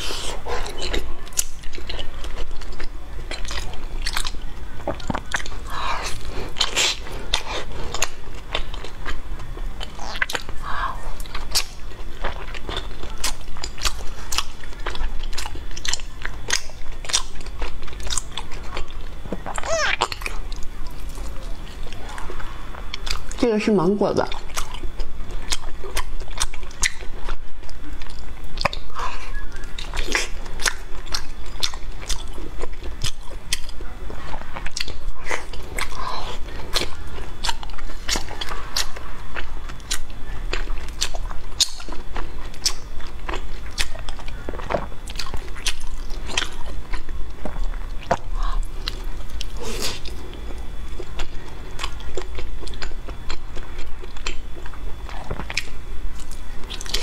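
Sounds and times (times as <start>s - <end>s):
chewing soft food: 0.0s - 23.6s, 24.2s - 57.0s.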